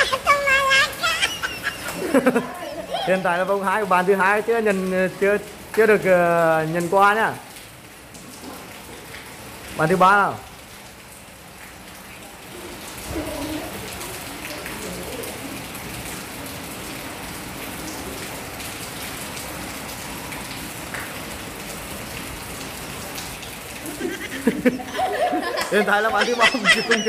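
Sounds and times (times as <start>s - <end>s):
rain on concrete: 0.0s - 27.0s.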